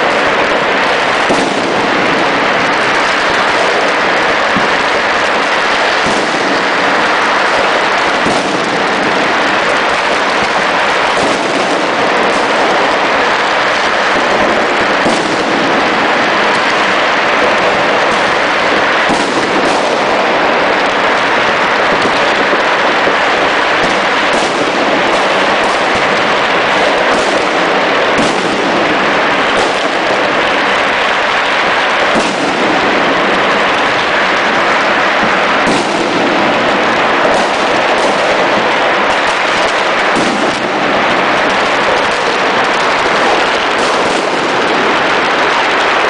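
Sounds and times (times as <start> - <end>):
firecrackers and fireworks barrage: 0.0 - 46.0
sharp firework reports: 0.0 - 46.0.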